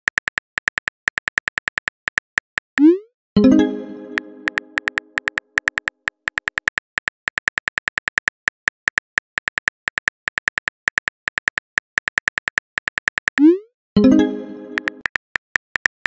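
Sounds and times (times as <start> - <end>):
keyboard typing clicks: 0.0 - 16.0.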